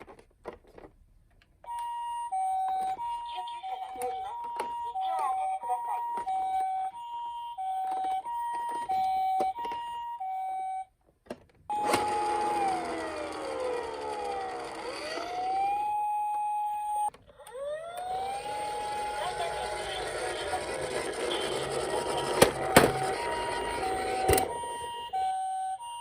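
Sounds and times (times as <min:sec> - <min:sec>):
two-tone electronic siren: 0:01.7 - 0:10.9, 0:11.7 - 0:26.0
wailing siren: 0:01.7 - 0:10.9, 0:11.7 - 0:26.0.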